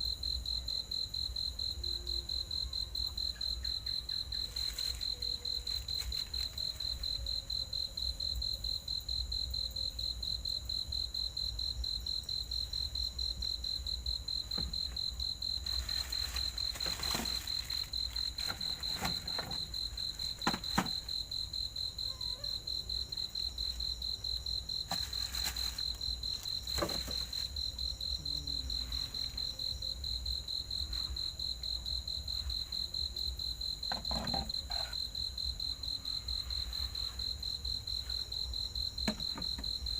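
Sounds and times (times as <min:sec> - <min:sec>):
cricket chirping trill: 0:00.0 - 0:39.9.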